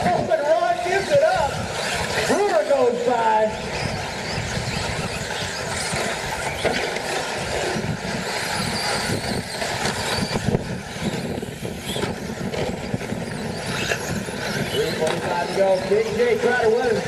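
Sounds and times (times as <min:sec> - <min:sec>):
rc truck motors whining: 0:00.0 - 0:17.0
tyre and track noise: 0:00.0 - 0:17.0
wind gusting on microphone: 0:00.0 - 0:17.0.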